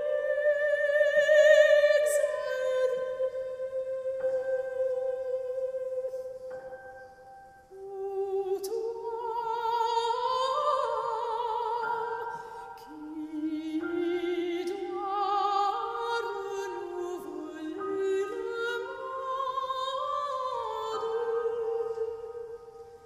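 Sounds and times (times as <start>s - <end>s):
slow music with held notes: 0.0s - 23.0s.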